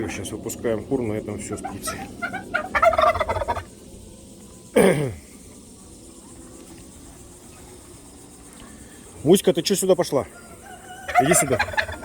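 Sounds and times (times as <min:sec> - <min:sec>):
low farmyard background: 0:00.0 - 0:12.0.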